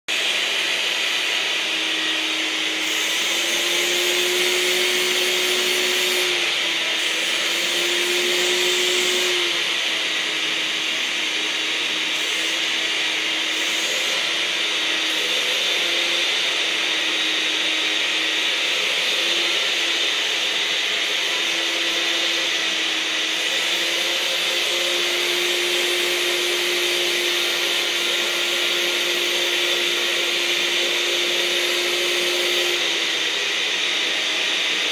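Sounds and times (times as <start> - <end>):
vacuum cleaner motor whine: 0.1 - 34.9.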